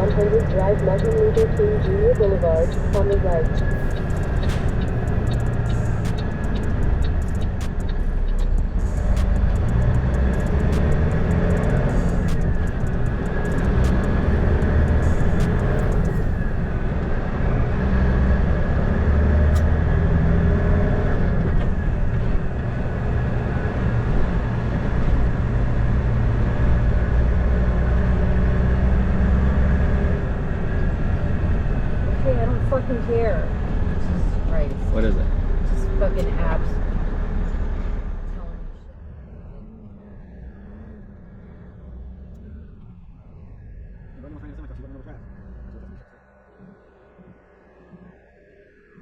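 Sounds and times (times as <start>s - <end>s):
truck engine and road rumble: 0.0s - 46.1s.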